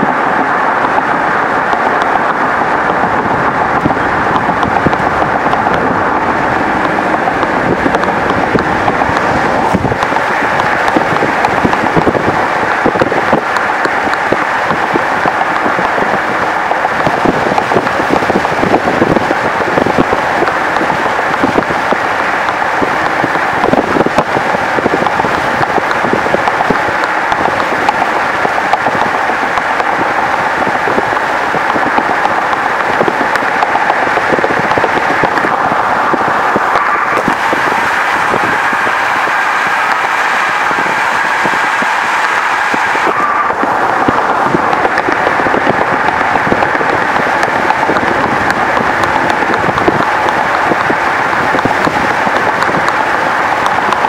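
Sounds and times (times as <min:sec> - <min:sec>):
road and wind noise of moving car: 0:00.0 - 0:54.0
wind buffeting microphone: 0:00.0 - 0:54.0.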